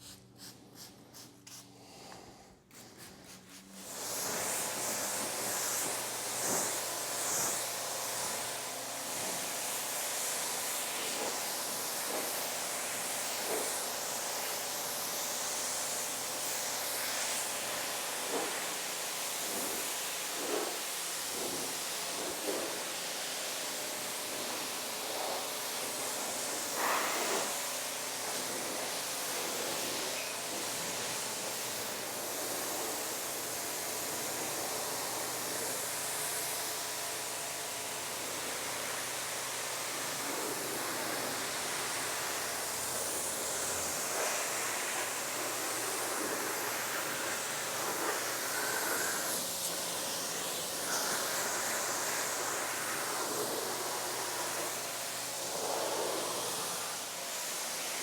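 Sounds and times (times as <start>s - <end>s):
hose spraying water on car: 3.3s - 58.0s.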